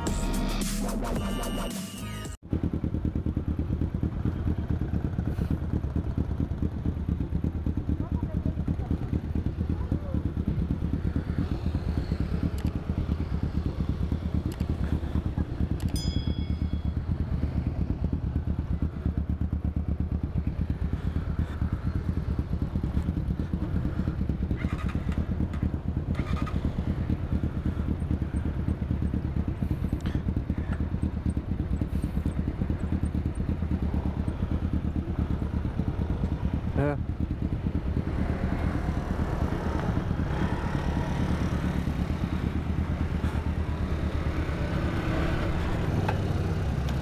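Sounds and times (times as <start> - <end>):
motorcycle engine idling: 2.4 - 47.0.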